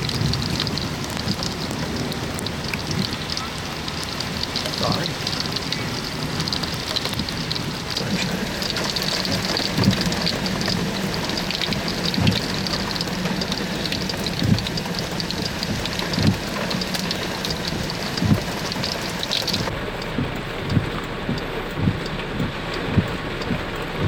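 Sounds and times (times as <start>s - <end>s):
rain on a vehicle: 0.0s - 24.0s.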